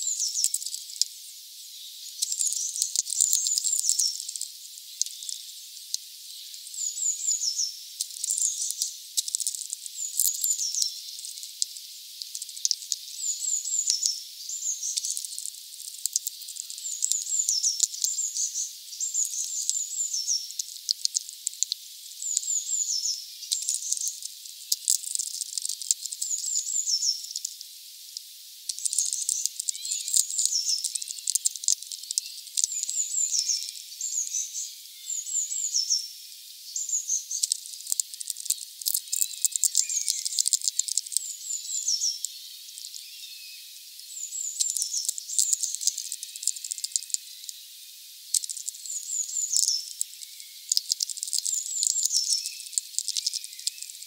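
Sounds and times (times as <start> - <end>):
high-pitched songbird song: 0.0 - 1.1, 1.8 - 8.9, 10.0 - 11.4, 12.6 - 15.3, 16.4 - 20.9, 22.2 - 24.9, 26.1 - 27.5, 28.7 - 47.6, 48.4 - 54.0.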